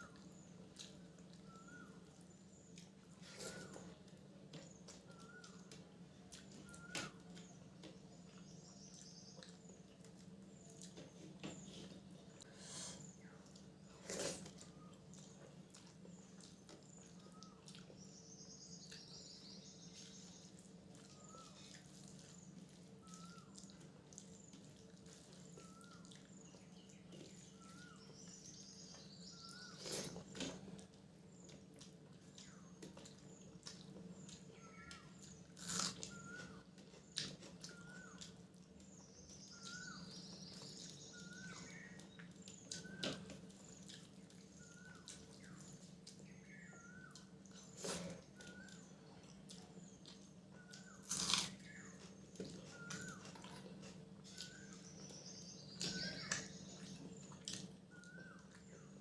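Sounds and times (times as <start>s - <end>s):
small bird chirps: 0.0s - 4.0s, 6.4s - 23.8s, 24.5s - 30.7s, 32.2s - 59.0s.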